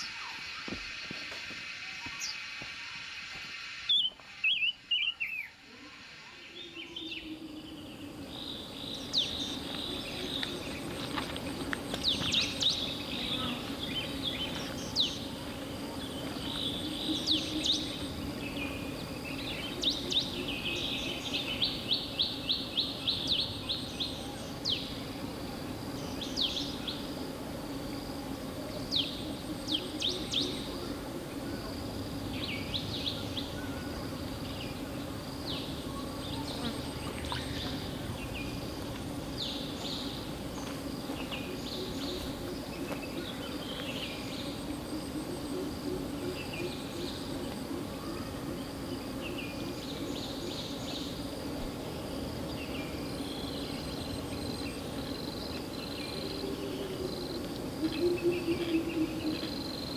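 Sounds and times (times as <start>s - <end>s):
background hiss: 0.0s - 59.9s
songbirds chirping and trilling: 0.0s - 59.9s.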